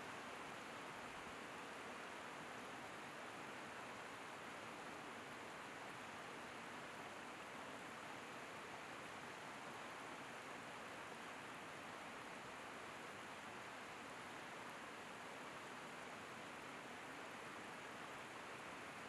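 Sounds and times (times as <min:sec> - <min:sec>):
faint waterfall rush: 0:00.0 - 0:19.0.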